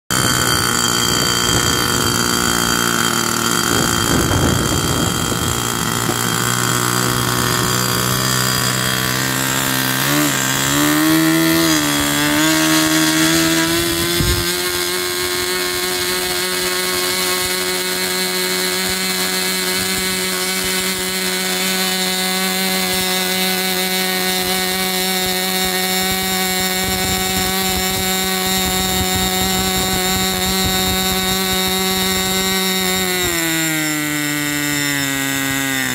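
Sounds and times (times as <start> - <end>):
model engine whining: 0.1 - 35.9.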